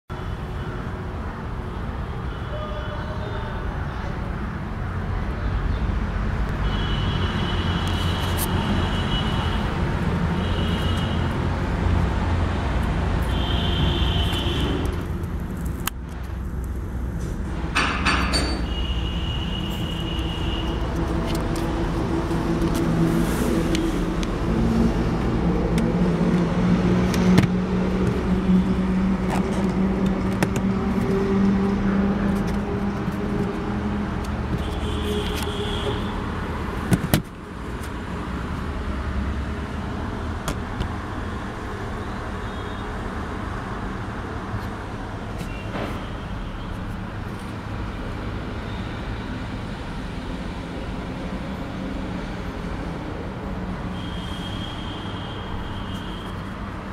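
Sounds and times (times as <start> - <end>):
traffic: 0.1 - 56.9.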